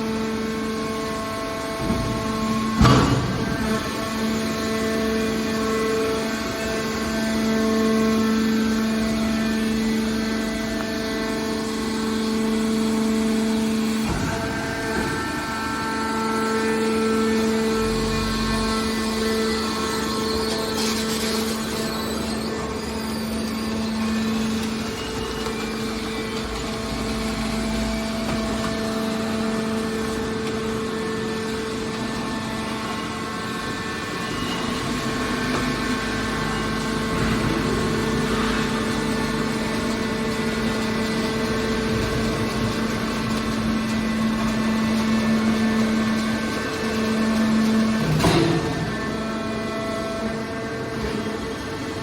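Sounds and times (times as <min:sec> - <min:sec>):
hydraulic baler shear humming: 0:00.0 - 0:52.0.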